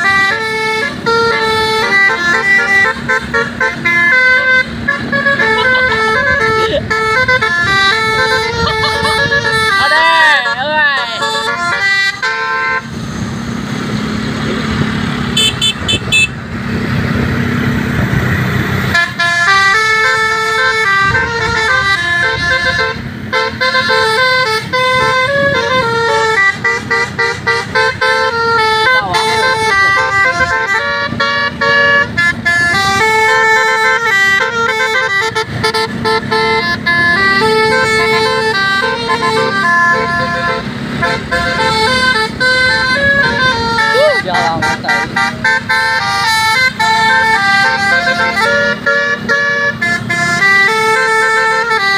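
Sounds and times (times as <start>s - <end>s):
bus multi-tone horn melody: 0.0s - 51.9s.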